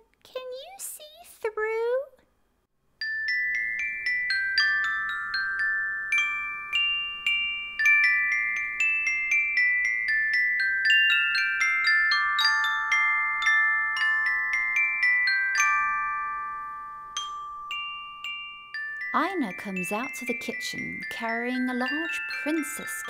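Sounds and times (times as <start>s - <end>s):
bell-like melody: 3.0s - 23.0s.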